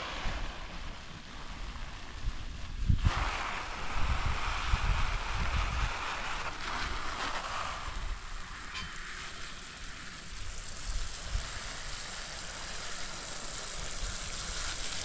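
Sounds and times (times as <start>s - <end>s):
watering can showering water on soil: 0.0s - 15.0s.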